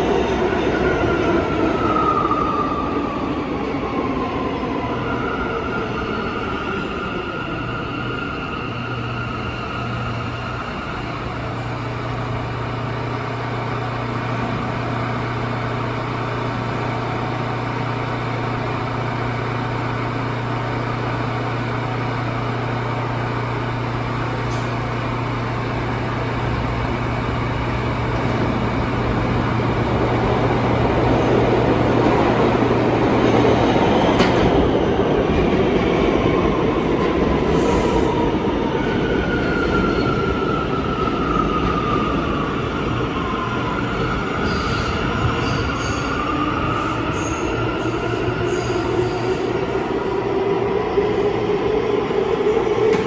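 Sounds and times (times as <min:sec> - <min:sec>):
train electric hum and whine: 0:00.0 - 0:53.0
wheel and rail rumble: 0:00.0 - 0:53.0.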